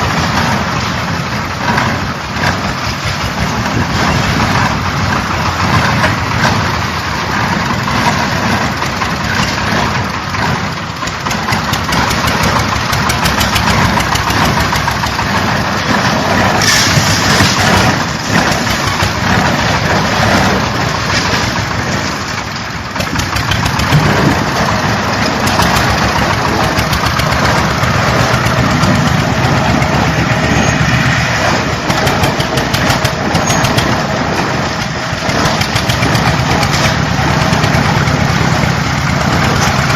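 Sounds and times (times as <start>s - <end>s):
concrete mixer running: 0.0s - 39.9s.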